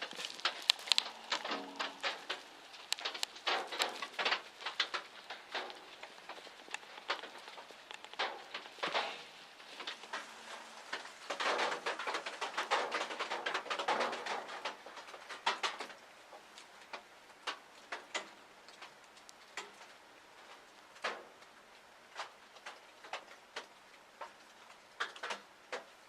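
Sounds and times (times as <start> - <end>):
raindrops dripping on a blind: 0.0 - 26.0
rustling and clicking: 0.0 - 26.0.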